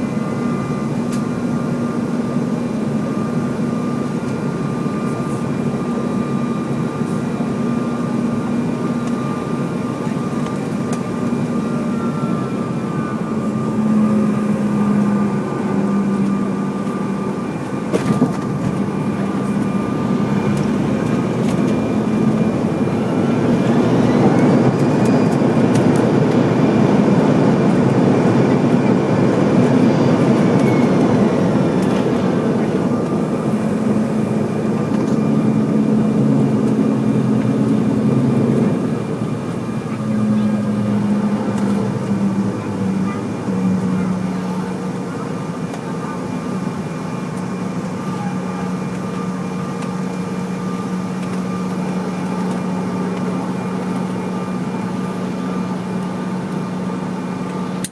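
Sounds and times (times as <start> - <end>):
jet engine whine: 0.0 - 57.9
jet engines rumbling: 0.0 - 57.9.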